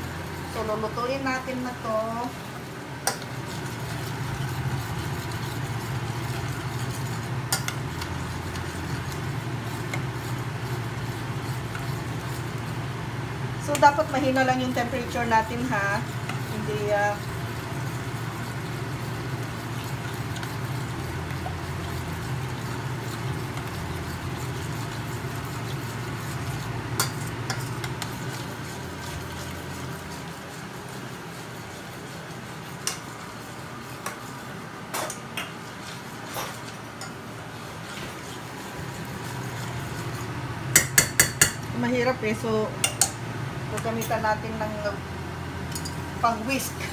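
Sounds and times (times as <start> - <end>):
steady low hum: 0.0 - 46.9
spoon stirring sauce in saucepan: 2.0 - 12.9, 13.6 - 41.7.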